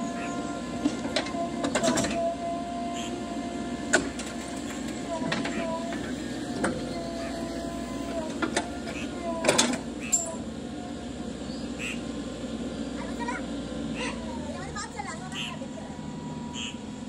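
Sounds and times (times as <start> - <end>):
backhoe engine whining: 0.0 - 17.0.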